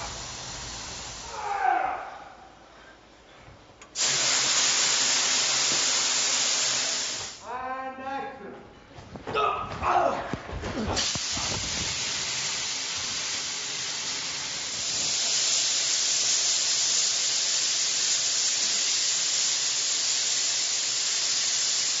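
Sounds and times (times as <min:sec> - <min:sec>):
steady hissing noise: 0:00.0 - 0:09.3, 0:10.2 - 0:22.0.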